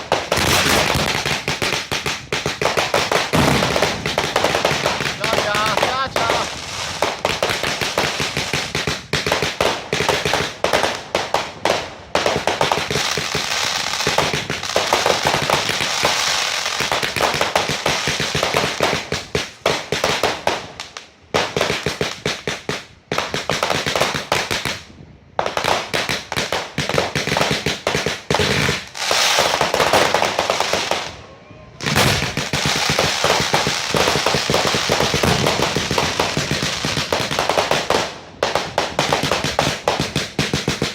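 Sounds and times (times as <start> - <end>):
fireworks crackling and banging: 0.0 - 31.2, 31.8 - 40.9.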